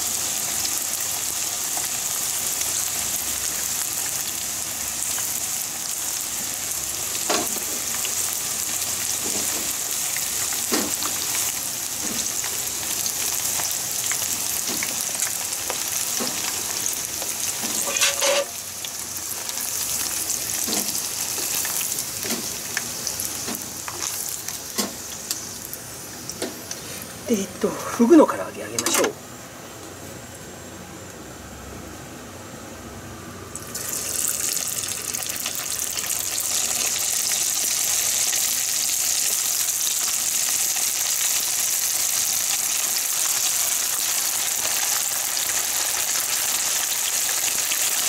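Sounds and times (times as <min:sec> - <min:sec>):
hot oil sizzling: 0:00.0 - 0:28.3, 0:33.5 - 0:48.0.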